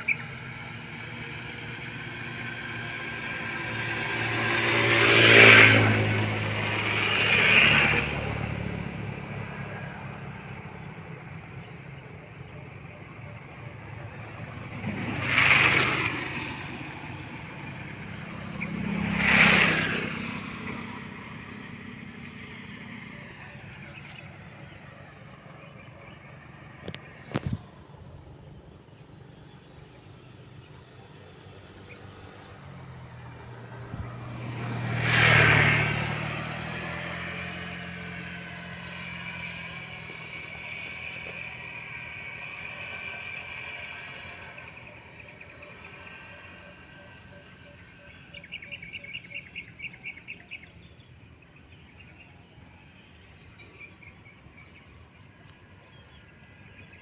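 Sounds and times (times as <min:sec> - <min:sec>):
insects chirring: 0:00.0 - 0:57.0
motor vehicle passing: 0:00.0 - 0:57.0.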